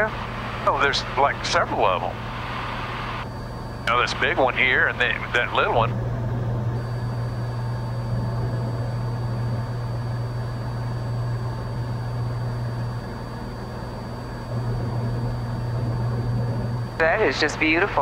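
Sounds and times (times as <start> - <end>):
airplane engine droning in cabin: 0.0 - 18.0.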